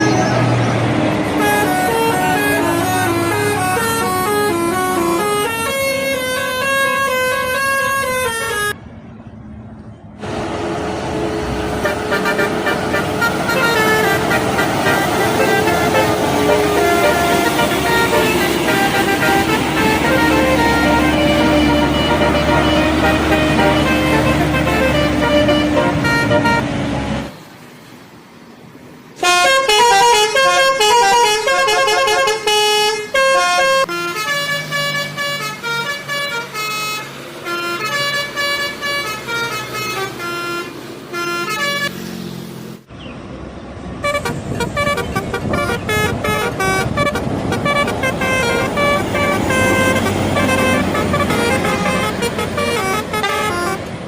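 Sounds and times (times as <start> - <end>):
bus horns playing multi-note tunes: 0.0 - 8.8, 10.2 - 27.4, 29.2 - 42.0, 44.0 - 54.0
bus engine: 0.0 - 54.0
road noise: 0.0 - 54.0.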